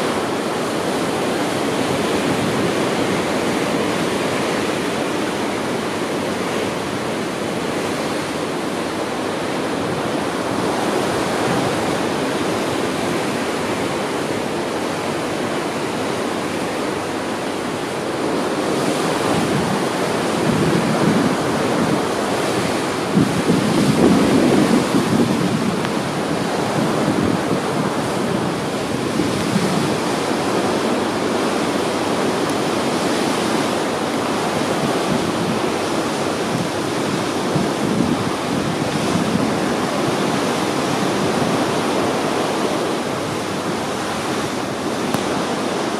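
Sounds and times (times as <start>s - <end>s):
sea and wake rushing: 0.0s - 45.9s
wind buffeting microphone: 0.0s - 45.9s.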